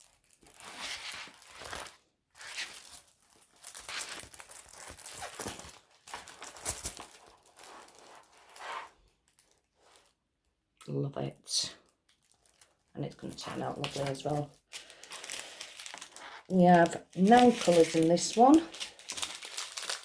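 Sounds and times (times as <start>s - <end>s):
packaging crinkling and rustling: 0.0s - 10.2s, 11.8s - 20.0s.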